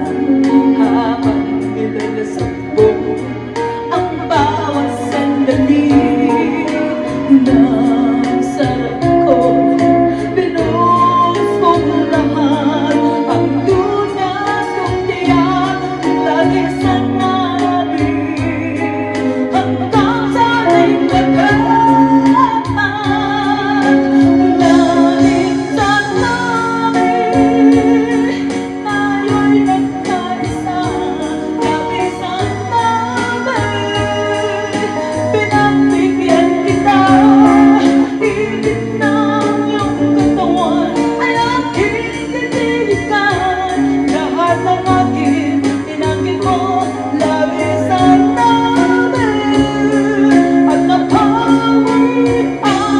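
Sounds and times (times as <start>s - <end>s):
electric guitar and band: 0.0s - 52.9s
woman singing into microphone: 0.0s - 52.9s.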